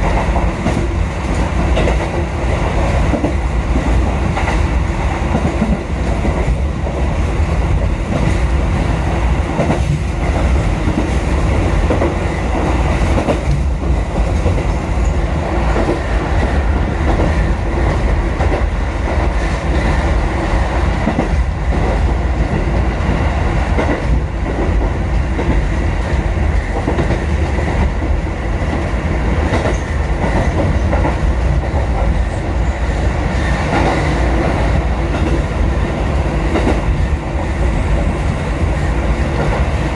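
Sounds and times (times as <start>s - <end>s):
train low rumble: 0.0s - 39.9s.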